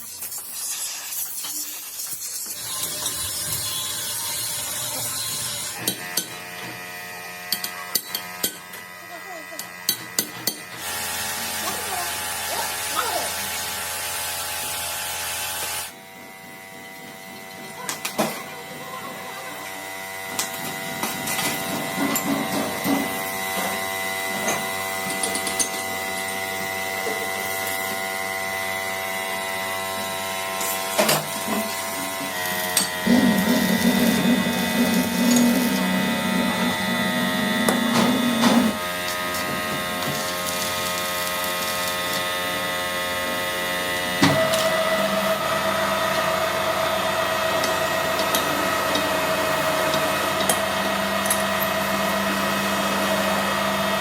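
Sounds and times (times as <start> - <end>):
workshop machine whining: 0.0 - 54.0.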